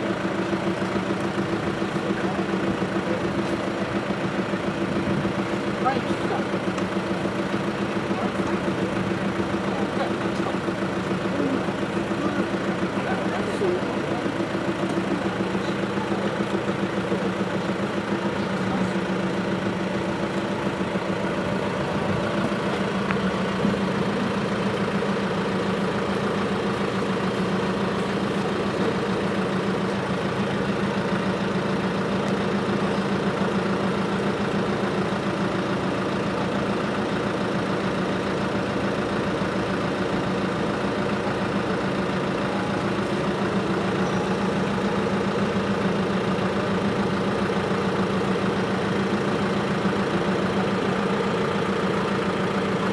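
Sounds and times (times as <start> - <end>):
truck diesel engine idling: 0.0 - 52.9.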